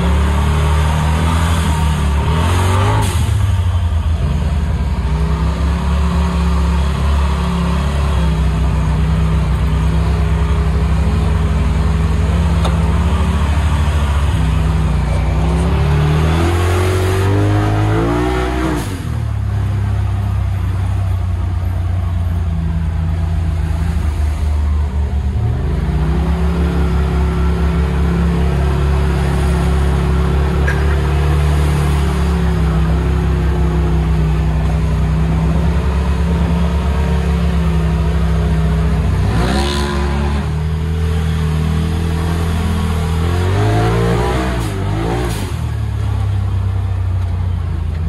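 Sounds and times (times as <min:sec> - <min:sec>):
engine revving: 0:00.0 - 0:08.4, 0:09.6 - 0:19.7, 0:25.5 - 0:46.2.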